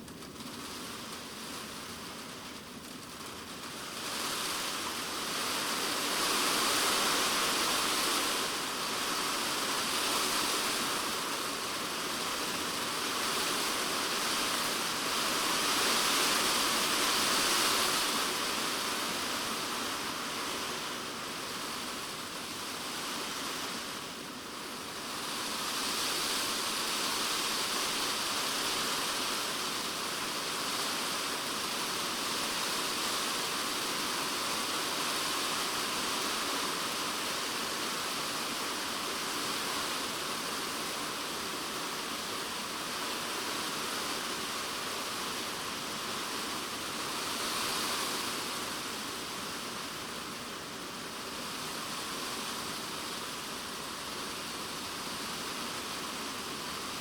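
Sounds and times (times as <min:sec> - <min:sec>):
heavy rain on plastic roof: 0:00.0 - 0:57.0.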